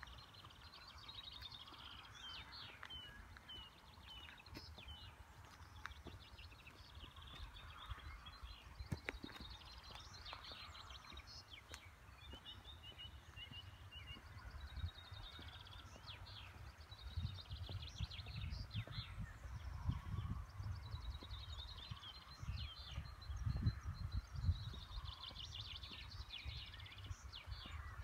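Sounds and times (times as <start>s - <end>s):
small birds trilling and chirping: 0.0s - 28.0s.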